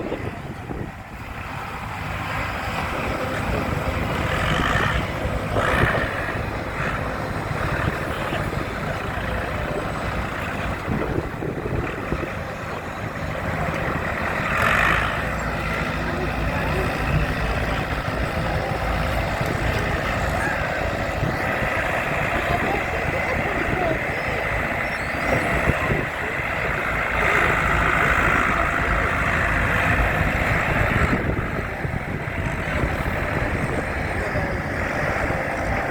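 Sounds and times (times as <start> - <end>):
tractor engine idling: 0.0 - 35.9
wind buffeting microphone: 0.0 - 35.9.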